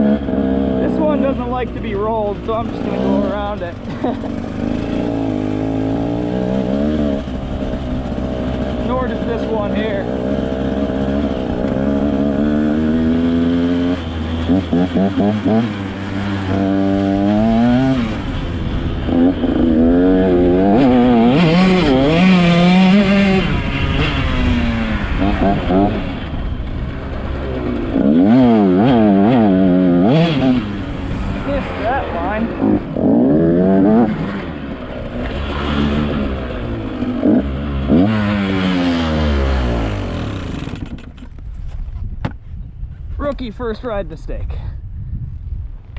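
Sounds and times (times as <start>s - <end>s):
motocross bike engine revving: 0.0s - 41.3s.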